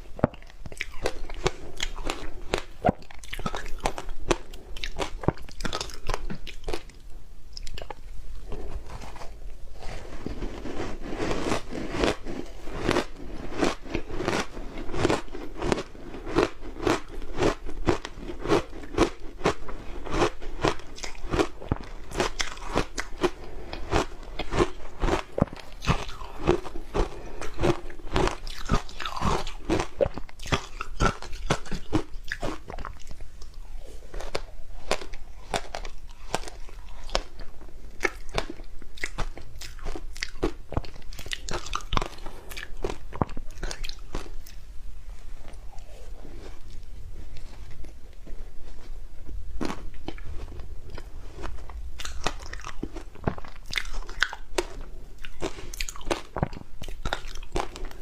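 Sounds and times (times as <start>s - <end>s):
ice being chewed: 0.2s - 7.0s, 7.6s - 44.7s, 49.6s - 58.0s.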